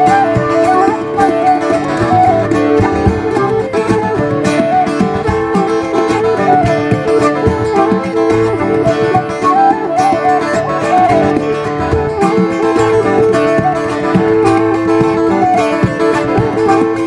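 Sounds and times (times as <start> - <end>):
flute melody: 0.0 - 17.0
strummed acoustic guitar: 0.0 - 17.0.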